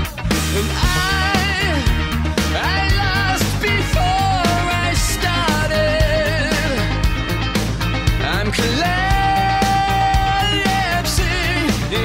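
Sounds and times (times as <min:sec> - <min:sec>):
low sustained bass notes: 0:00.0 - 0:12.0
rock music: 0:00.0 - 0:12.0
steady drum beat: 0:00.0 - 0:12.0.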